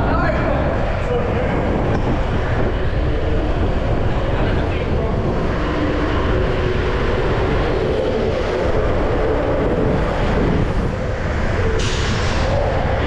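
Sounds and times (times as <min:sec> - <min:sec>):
skateboard wheels rolling on asphalt: 0:00.0 - 0:11.8
wind on microphone: 0:00.0 - 0:13.0.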